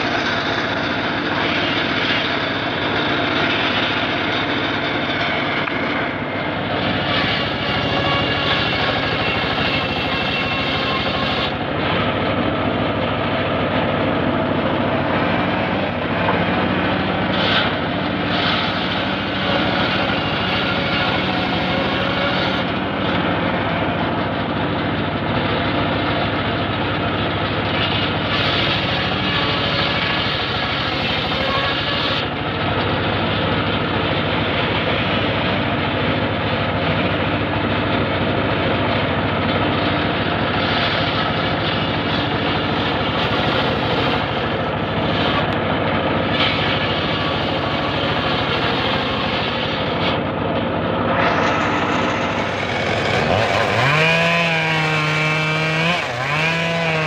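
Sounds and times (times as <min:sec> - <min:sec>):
circular saw ripping timber: 0:00.0 - 0:57.0
pitched whine: 0:00.0 - 0:57.0.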